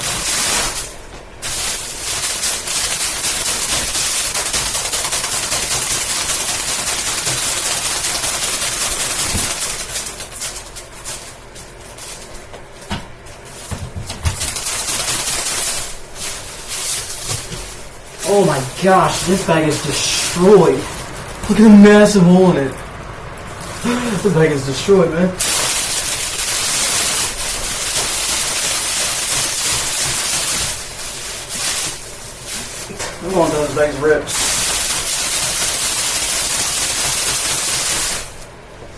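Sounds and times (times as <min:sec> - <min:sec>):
plastic bag flapping in box fan: 0:00.0 - 0:38.9.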